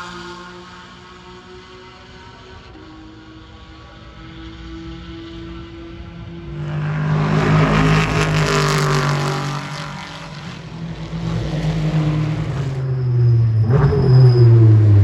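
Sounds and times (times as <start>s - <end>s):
race cars passing at high revs: 0.0s - 15.0s.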